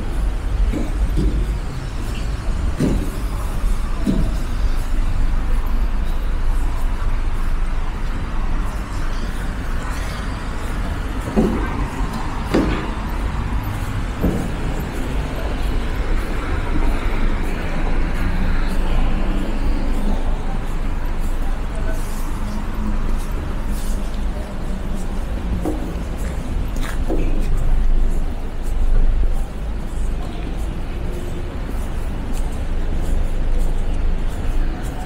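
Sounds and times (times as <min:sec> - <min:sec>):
buses passing: 0:00.0 - 0:35.0
cars passing: 0:00.0 - 0:35.0.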